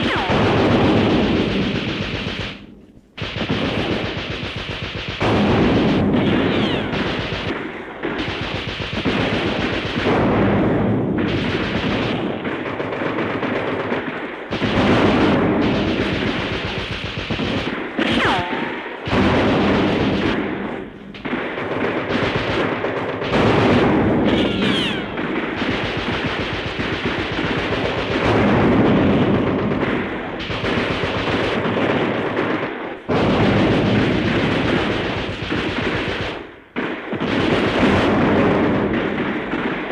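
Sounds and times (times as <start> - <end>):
machine-gun and rifle fire: 0.0 - 39.9.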